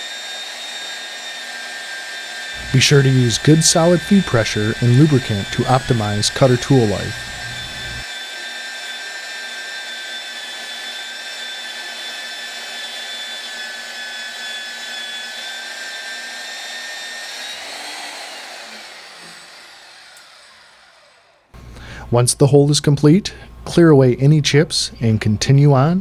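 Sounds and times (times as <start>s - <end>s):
drill motor whining: 0.0s - 21.6s.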